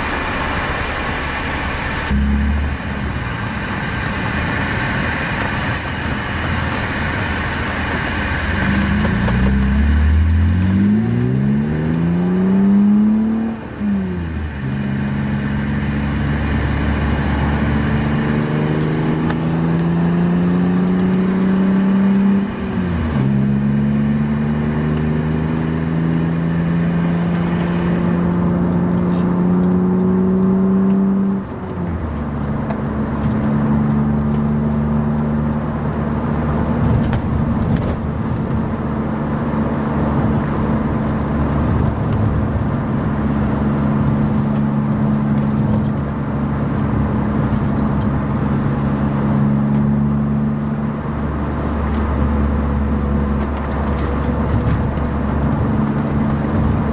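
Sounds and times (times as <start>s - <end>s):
car engine heard from cabin: 0.0s - 56.9s.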